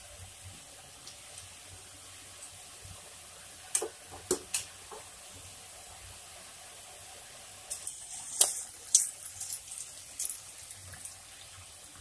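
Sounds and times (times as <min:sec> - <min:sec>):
oil sizzling deep-frying: 0:00.0 - 0:12.0.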